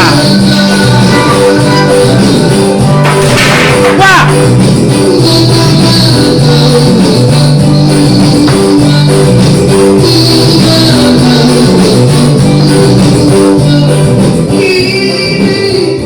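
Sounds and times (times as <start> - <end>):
upbeat dance music: 0.0 - 16.0.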